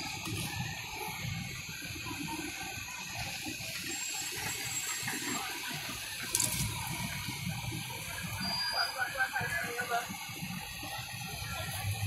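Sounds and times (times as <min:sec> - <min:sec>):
fire hose spraying water: 0:00.0 - 0:12.0.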